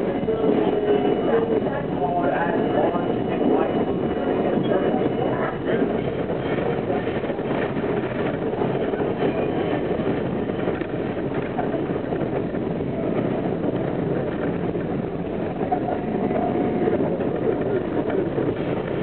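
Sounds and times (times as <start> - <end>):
subway train wheels on rails: 0.0 - 19.0.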